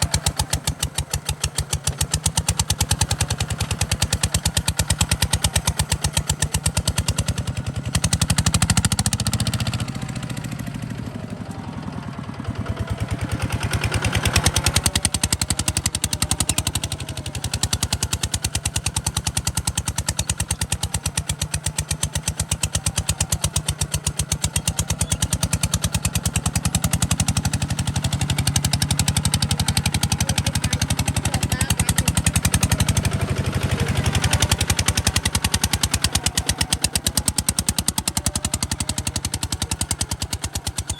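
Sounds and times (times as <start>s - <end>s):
diesel engine thudding: 0.0s - 40.9s.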